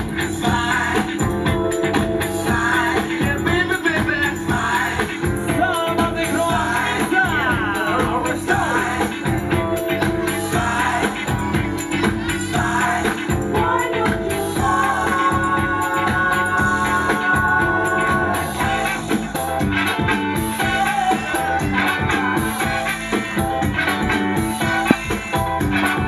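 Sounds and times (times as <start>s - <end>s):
funk music with singing: 0.0s - 26.0s.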